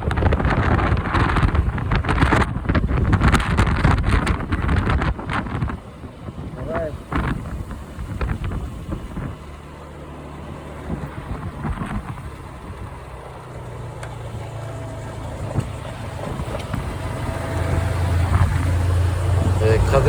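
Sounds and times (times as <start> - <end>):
motorcycle engine running: 0.0 - 20.0
strong wind buffeting microphone: 0.0 - 20.0.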